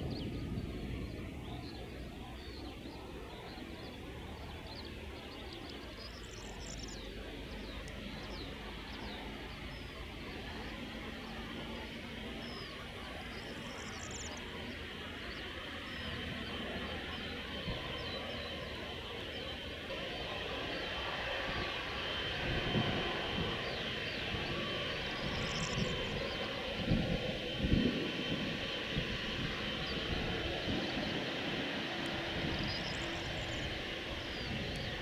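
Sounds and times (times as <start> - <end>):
small birds chirping: 0.0 - 19.8, 20.5 - 26.6, 28.2 - 35.0.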